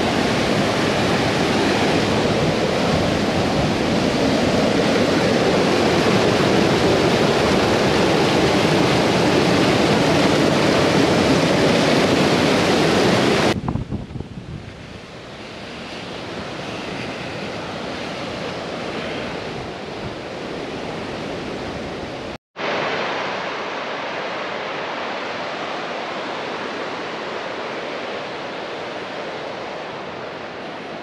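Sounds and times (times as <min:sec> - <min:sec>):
fast river water rushing: 0:00.0 - 0:13.6, 0:17.6 - 0:31.0.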